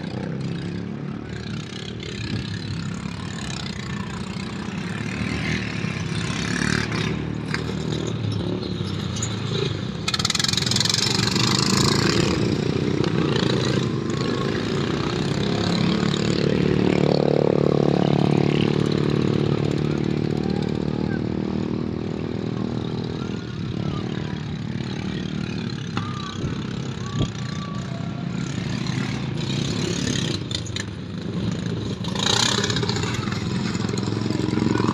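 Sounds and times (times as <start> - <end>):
racing lawnmower engines: 0.0 - 34.9.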